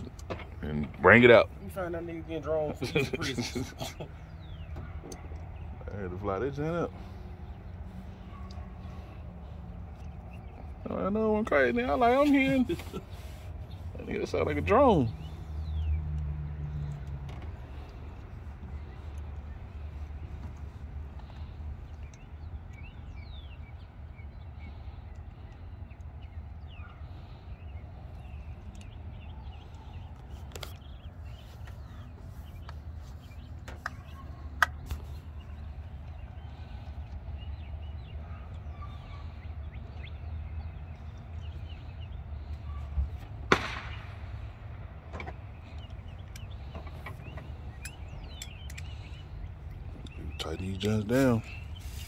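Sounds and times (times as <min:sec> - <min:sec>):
birds chirping faintly: 0:00.0 - 0:52.0.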